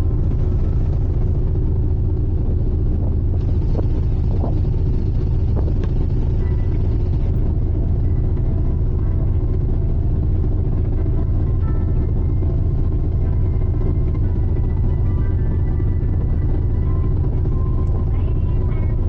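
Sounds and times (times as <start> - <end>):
ship low rumble: 0.0 - 19.0.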